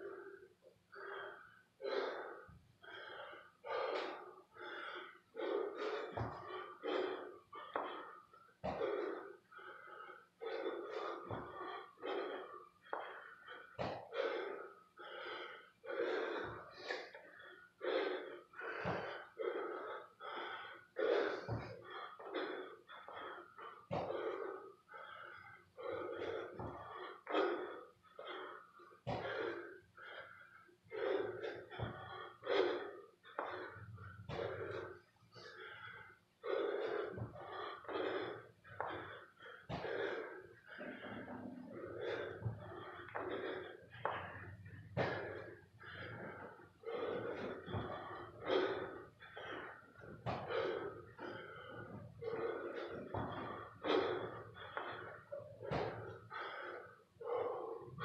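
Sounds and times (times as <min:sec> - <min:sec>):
man panting heavily: 0:00.0 - 0:58.0.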